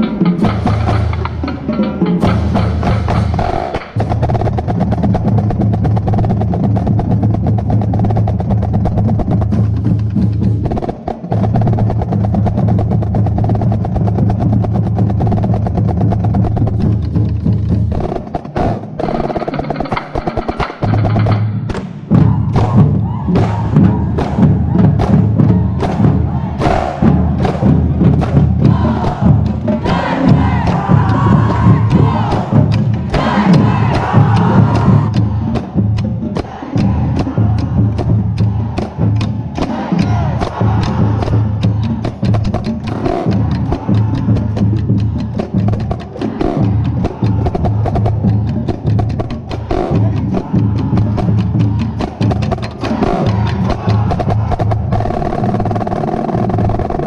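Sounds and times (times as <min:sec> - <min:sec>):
marching drumline playing: 0:00.0 - 0:57.0.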